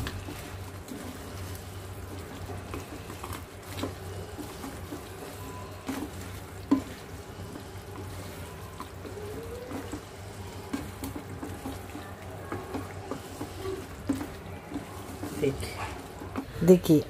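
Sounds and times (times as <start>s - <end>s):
sauce squelching and sizzling: 0.0s - 17.0s.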